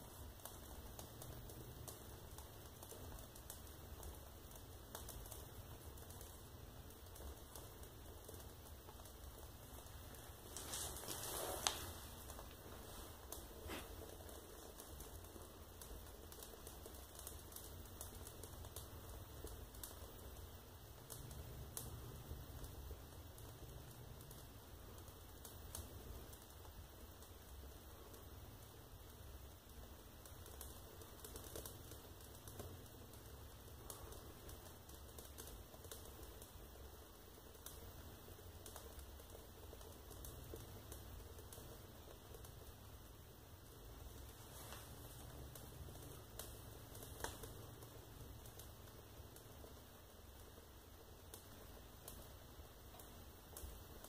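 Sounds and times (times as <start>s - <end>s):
wood stove fire crackling: 0.0s - 54.0s.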